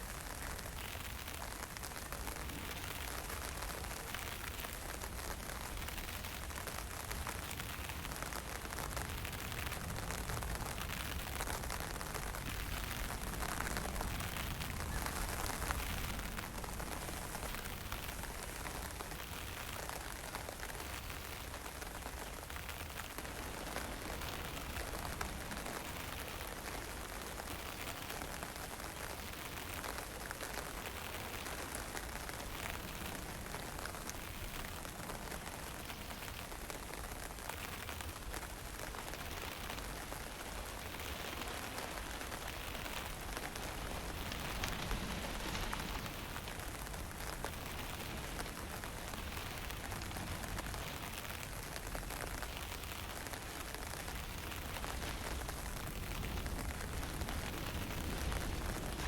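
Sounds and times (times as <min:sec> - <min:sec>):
wind: 0:00.0 - 0:59.0.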